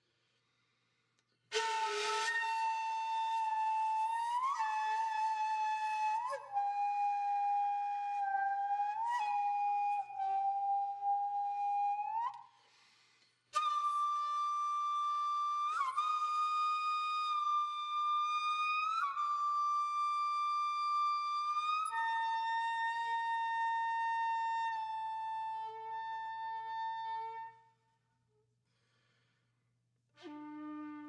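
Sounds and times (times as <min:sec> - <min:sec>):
solo flute playing long notes: 0:01.5 - 0:12.4, 0:13.6 - 0:27.6, 0:30.2 - 0:31.0.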